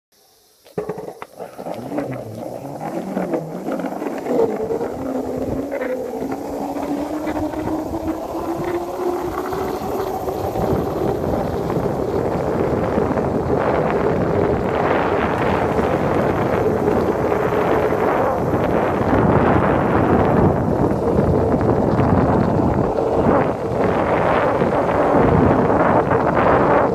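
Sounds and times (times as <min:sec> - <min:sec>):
skateboard wheels rolling on concrete: 0:00.2 - 0:26.9.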